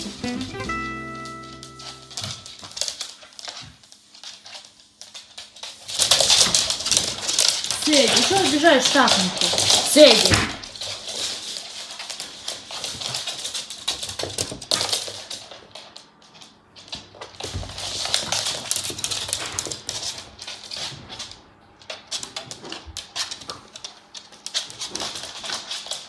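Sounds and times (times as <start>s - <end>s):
dogs scuffling on floor: 0.0s - 26.0s.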